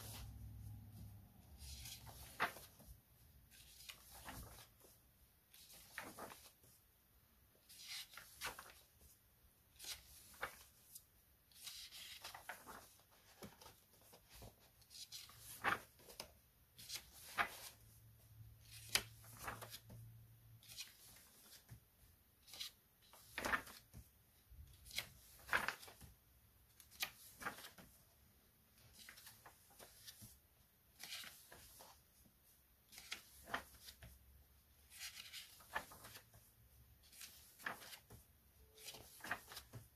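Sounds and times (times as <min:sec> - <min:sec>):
book pages turning: 0:00.0 - 0:06.8, 0:07.6 - 0:09.1, 0:09.7 - 0:17.9, 0:18.6 - 0:21.8, 0:22.4 - 0:26.1, 0:26.7 - 0:28.0, 0:28.8 - 0:32.2, 0:32.8 - 0:34.2, 0:34.8 - 0:36.4, 0:37.0 - 0:39.9.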